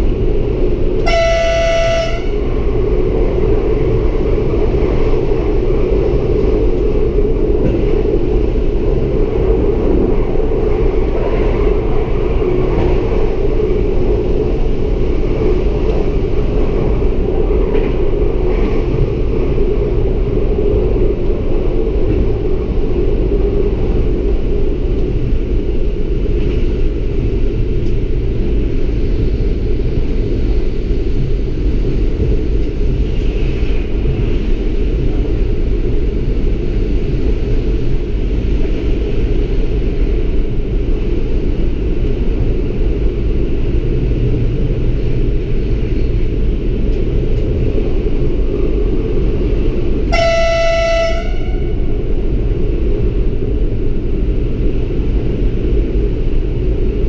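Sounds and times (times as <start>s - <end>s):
diesel railcar drone and rumble: 0.0s - 57.0s.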